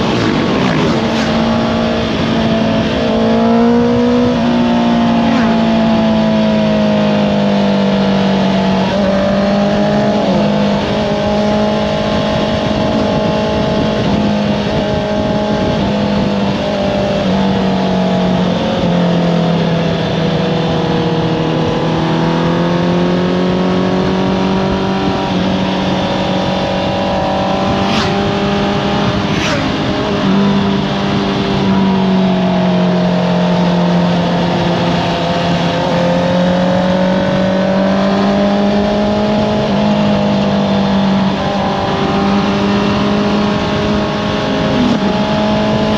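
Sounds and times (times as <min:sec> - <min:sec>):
motorcycle engine revving: 0:00.0 - 0:45.9
wind noise: 0:00.0 - 0:45.9.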